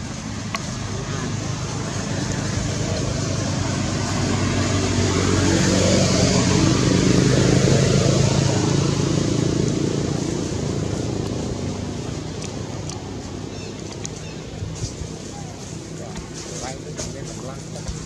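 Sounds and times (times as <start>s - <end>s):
vehicle driving past: 0.0s - 17.9s.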